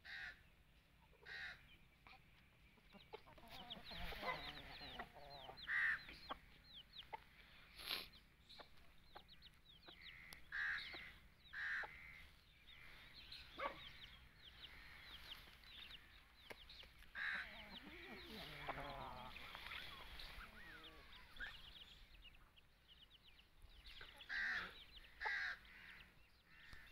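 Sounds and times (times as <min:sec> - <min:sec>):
chickens clucking: 0:00.7 - 0:26.9.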